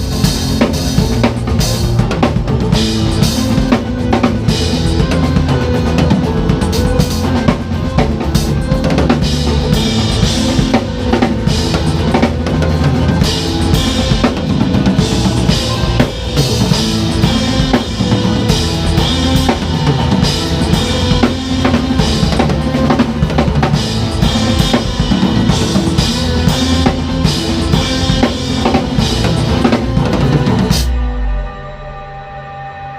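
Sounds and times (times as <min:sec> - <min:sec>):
drum kit playing: 0:00.0 - 0:31.6
backing track music: 0:00.0 - 0:32.9.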